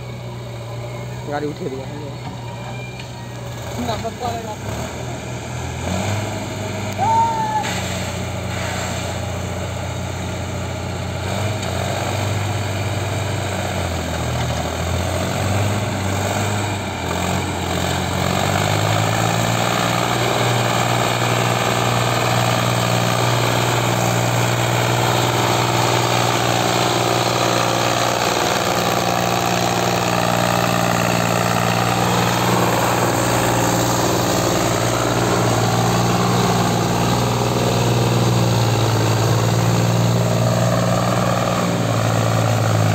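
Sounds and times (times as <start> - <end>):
diesel tractor engine: 0.0 - 42.9.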